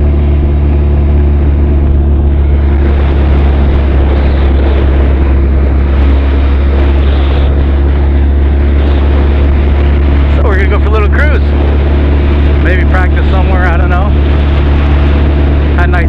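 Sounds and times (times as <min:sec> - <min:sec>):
motorcycle engine and exhaust cruising: 0:00.0 - 0:16.0
road noise: 0:00.0 - 0:16.0
wind noise: 0:00.0 - 0:16.0.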